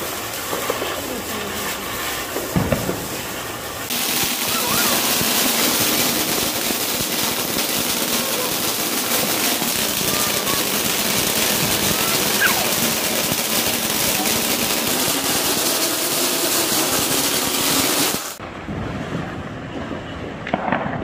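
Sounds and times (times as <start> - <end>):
firework rushing hiss: 0.0 - 18.4
firework crackle: 0.0 - 21.0.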